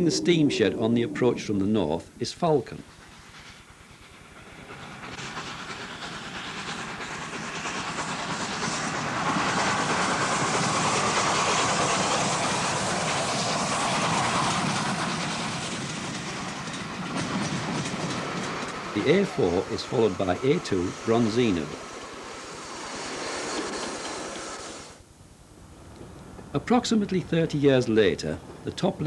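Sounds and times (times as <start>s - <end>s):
steam train passing at speed: 0.0s - 25.0s, 25.6s - 29.0s.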